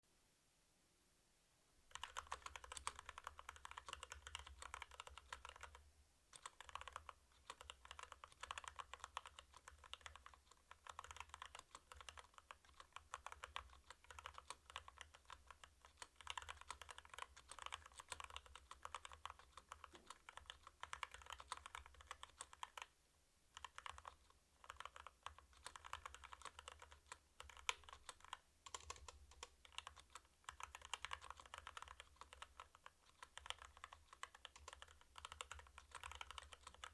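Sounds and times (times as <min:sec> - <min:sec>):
mechanical keyboard typing: 0:01.9 - 0:22.9, 0:23.5 - 0:36.9.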